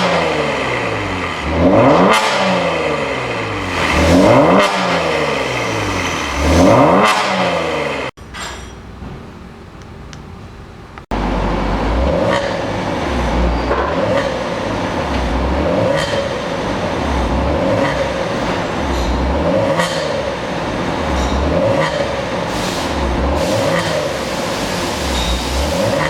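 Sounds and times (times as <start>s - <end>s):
car exhaust at speed: 0.0s - 8.1s, 11.1s - 26.0s.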